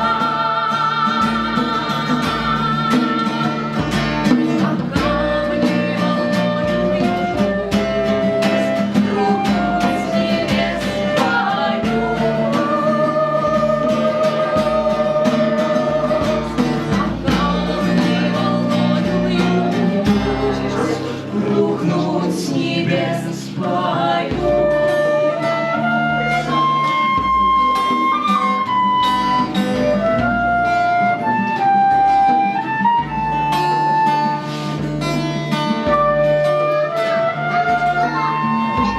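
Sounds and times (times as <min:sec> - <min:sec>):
guitar playing held notes: 0:00.0 - 0:38.9.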